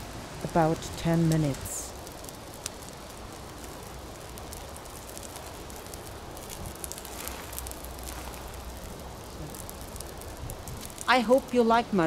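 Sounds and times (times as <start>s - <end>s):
torch flames crackling: 0.0s - 12.0s.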